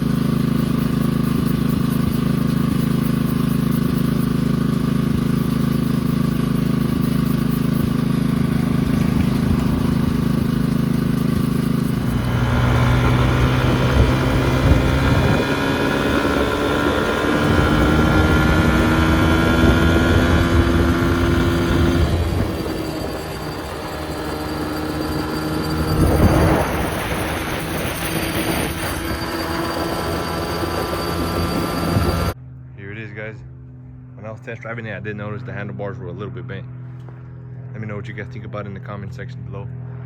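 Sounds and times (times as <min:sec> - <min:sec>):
dirt bike engine running: 0:00.0 - 0:32.4.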